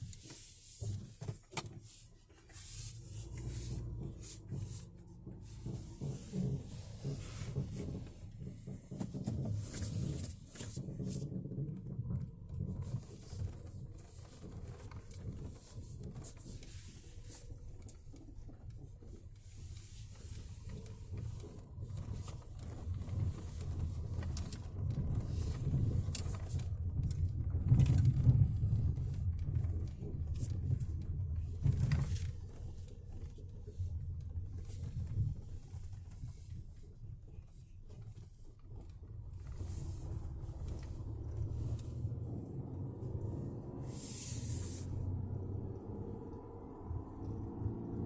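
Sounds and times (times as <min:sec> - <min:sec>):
truck engine rumbling: 0:02.1 - 0:48.0.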